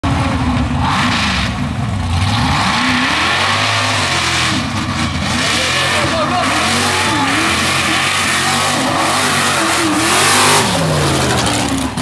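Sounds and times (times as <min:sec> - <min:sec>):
truck engine revving hard: 0:00.0 - 0:12.0
rush of mud noise: 0:00.1 - 0:12.0.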